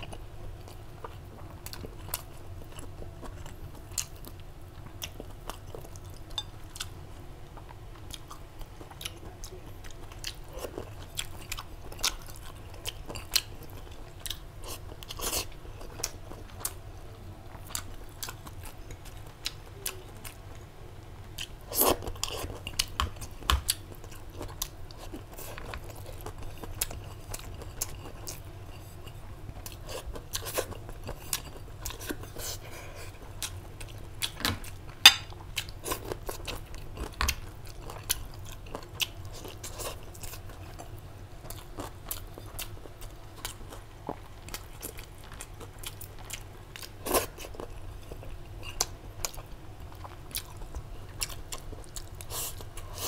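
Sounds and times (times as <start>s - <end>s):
person chewing and crunching food: 0.0s - 20.7s, 21.3s - 53.0s.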